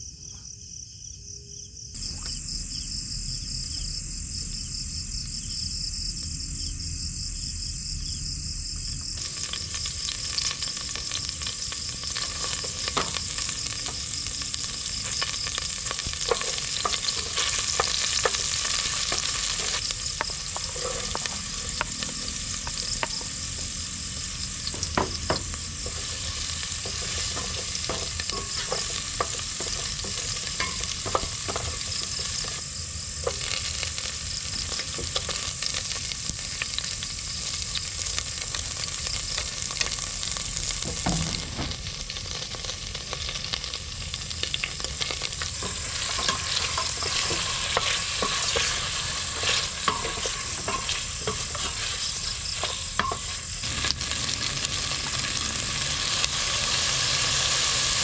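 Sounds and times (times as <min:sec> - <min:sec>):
crickets chirping: 0:00.0 - 0:58.0
food sizzling in a hot pan: 0:09.0 - 0:58.0.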